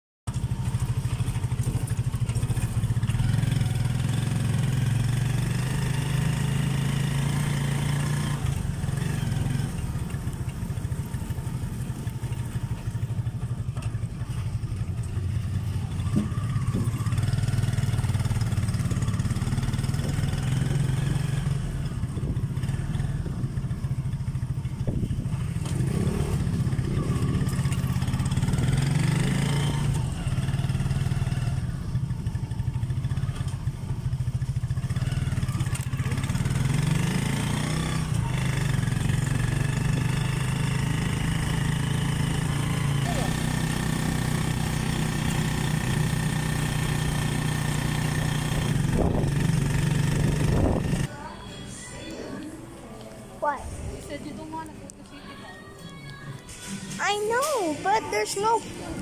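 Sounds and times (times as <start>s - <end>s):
motorcycle engine running: 0.3s - 51.1s.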